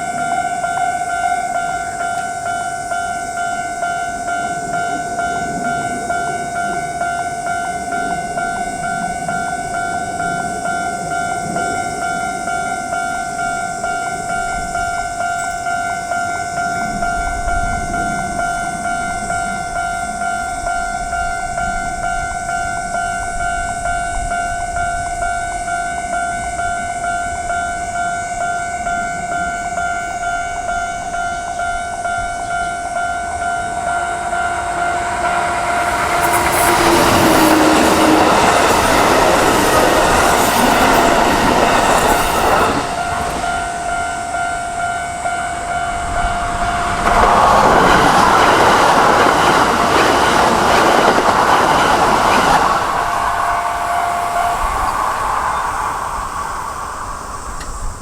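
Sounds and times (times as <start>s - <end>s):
level-crossing warning bell: 0.0s - 58.0s
train wheels on rails: 0.0s - 58.0s.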